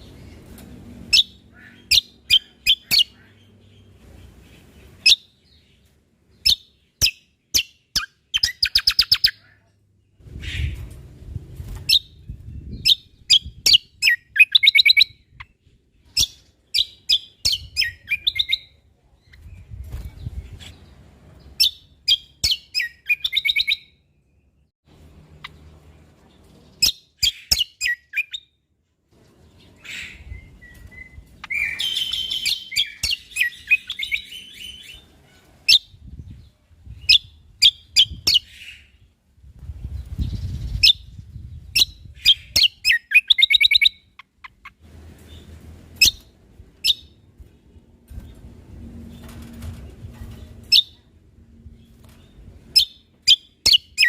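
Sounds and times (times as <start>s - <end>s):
bird chirps and trills: 0.0s - 28.6s, 29.2s - 39.1s, 39.8s - 51.1s, 51.7s - 54.0s.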